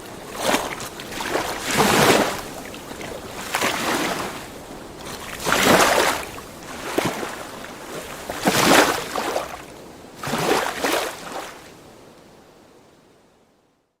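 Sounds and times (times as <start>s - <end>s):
lake waves lapping shore: 0.0s - 11.8s.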